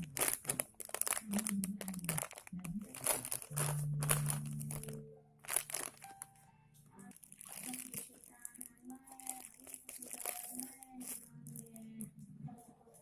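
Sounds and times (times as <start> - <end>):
plastic wrappers crinkling: 0.0 - 6.4, 7.0 - 12.1.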